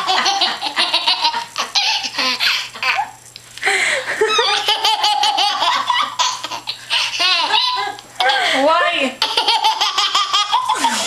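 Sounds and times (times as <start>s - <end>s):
toddler laughing: 0.0s - 3.2s, 4.2s - 8.6s, 9.2s - 11.0s.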